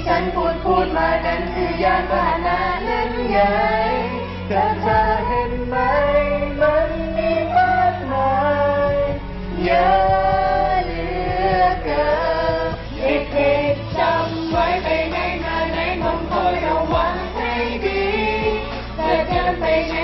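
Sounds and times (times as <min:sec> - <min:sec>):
backing music: 0:00.0 - 0:20.0
woman singing: 0:00.0 - 0:20.0.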